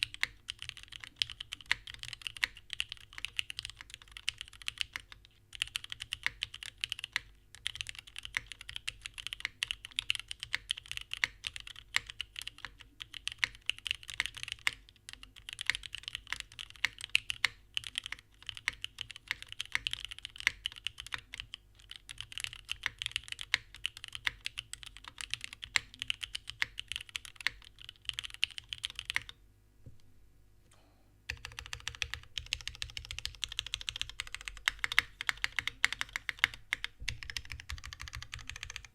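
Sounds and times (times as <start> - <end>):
fast mechanical keyboard typing: 0.0 - 29.4, 31.3 - 38.9.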